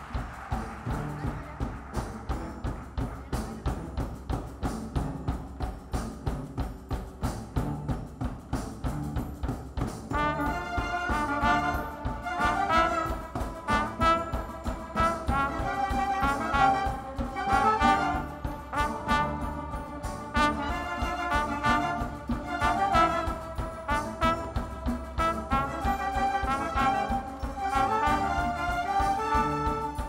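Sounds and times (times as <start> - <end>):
orchestra playing: 0.0 - 30.0.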